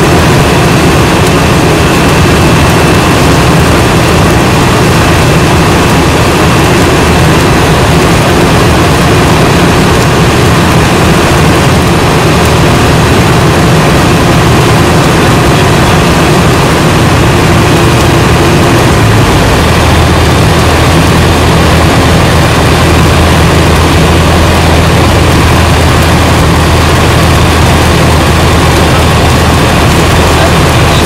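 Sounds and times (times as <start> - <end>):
aircraft engine and propeller drone: 0.0 - 31.0.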